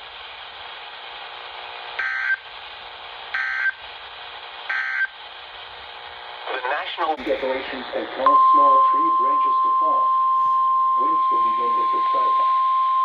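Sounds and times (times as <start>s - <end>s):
radio hiss: 0.0s - 12.6s.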